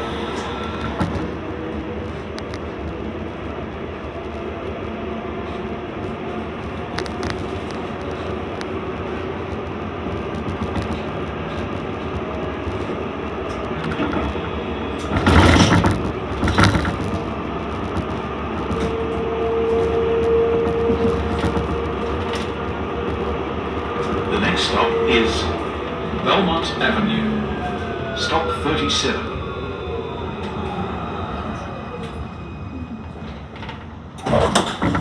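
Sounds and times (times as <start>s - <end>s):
rattling noise: 0.0s - 3.4s, 5.4s - 28.6s, 33.2s - 35.0s
tram wheels and motors rumbling: 0.0s - 35.0s.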